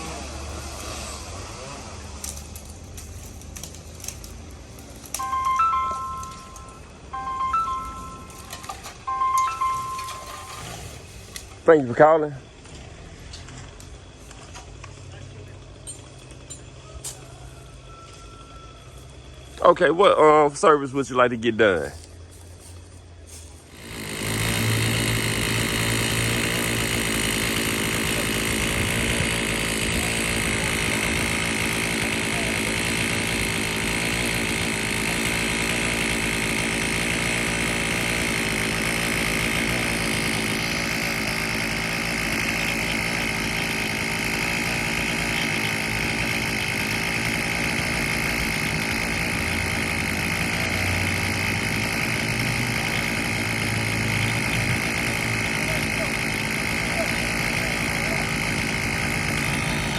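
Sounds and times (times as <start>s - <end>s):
engine running with high whine: 0.0s - 59.9s.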